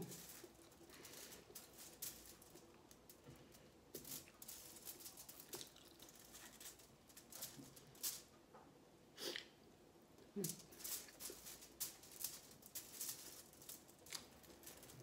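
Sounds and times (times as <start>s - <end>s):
aluminium foil crinkling: 0.0s - 8.4s, 10.4s - 15.0s.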